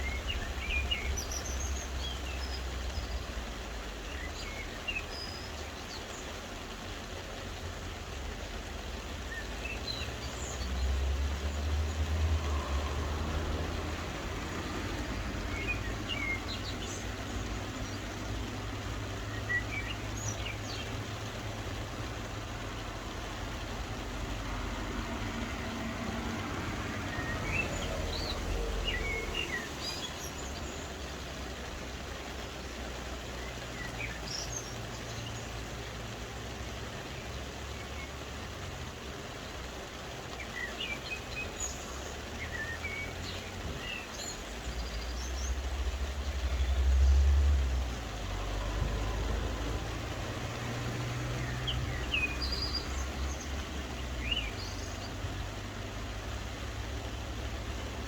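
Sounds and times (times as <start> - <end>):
birds chirping: 0.0 - 6.9, 13.2 - 58.0
soft rain hiss: 0.0 - 58.0.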